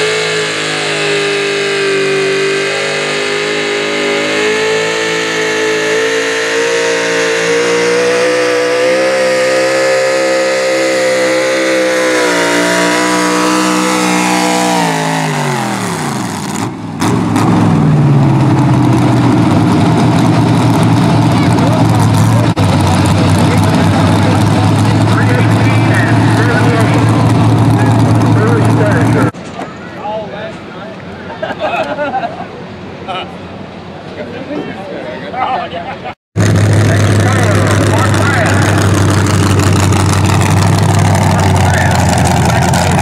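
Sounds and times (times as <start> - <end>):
truck engine revving: 0.0 - 29.5, 36.4 - 43.0
low steady engine sound: 0.0 - 43.0.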